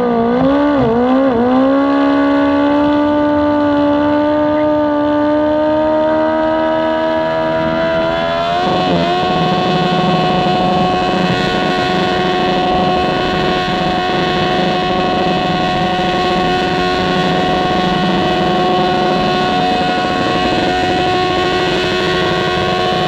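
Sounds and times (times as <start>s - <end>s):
garden tractor engine revving: 0.6s - 23.0s.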